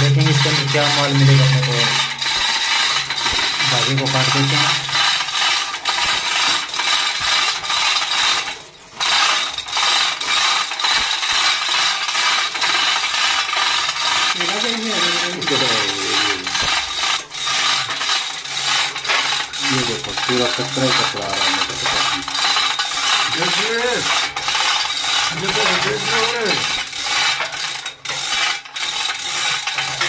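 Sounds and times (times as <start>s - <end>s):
chain hoist ratcheting: 0.0s - 30.0s.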